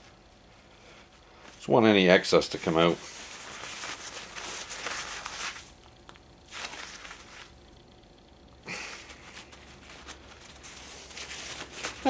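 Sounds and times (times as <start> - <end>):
paper towels rustling and crinkling: 0.0 - 7.7, 8.7 - 12.0.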